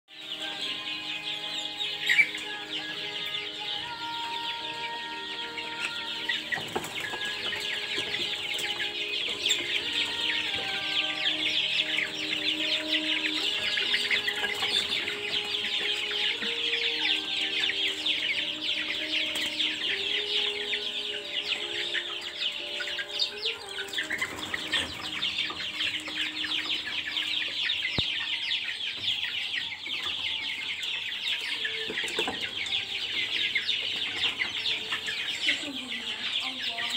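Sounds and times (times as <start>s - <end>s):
chicken clucks: 0.1s - 36.9s
chicks peeping: 0.1s - 36.9s.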